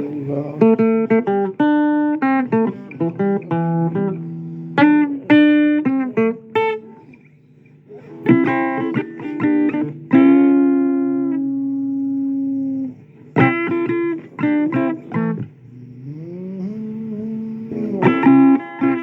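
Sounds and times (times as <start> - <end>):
blues guitar playing: 0.0 - 19.0.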